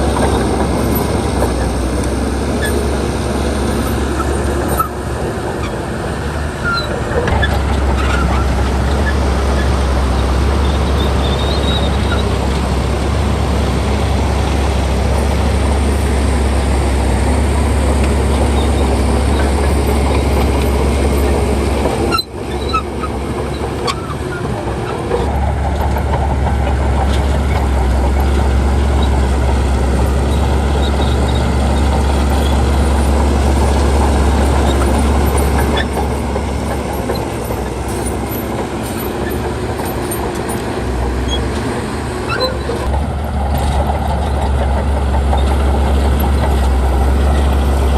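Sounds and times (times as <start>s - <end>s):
diesel machinery engine hum: 0.0s - 47.9s.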